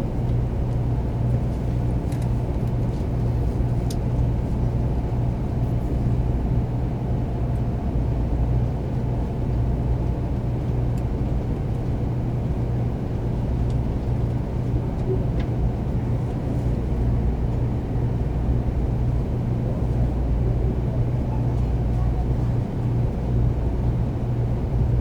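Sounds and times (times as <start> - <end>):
train running rumble: 0.0 - 25.0.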